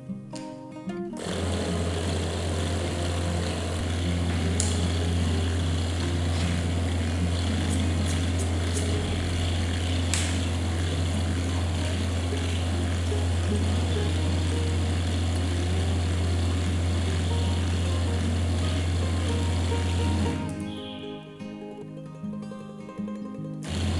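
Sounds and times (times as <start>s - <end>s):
guitar music: 0.0s - 23.9s
faint clicks: 1.2s - 20.9s
electric motor humming: 1.2s - 21.1s, 23.6s - 23.9s.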